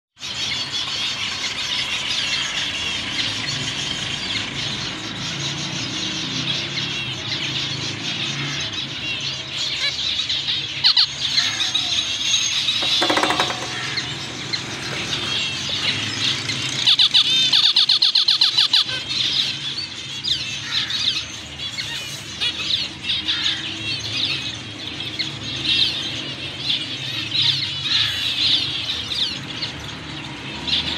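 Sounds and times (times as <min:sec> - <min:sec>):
zebra finches chirping: 0:00.2 - 0:30.9.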